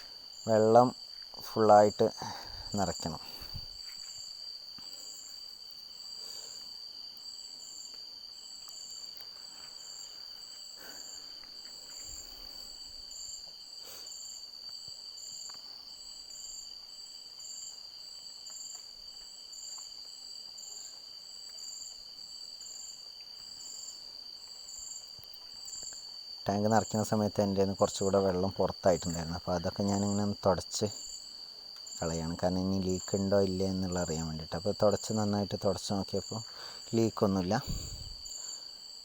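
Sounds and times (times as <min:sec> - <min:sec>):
insect high trill: 0:00.0 - 0:18.9, 0:19.5 - 0:39.0
insect pulsed chirp: 0:00.0 - 0:39.0.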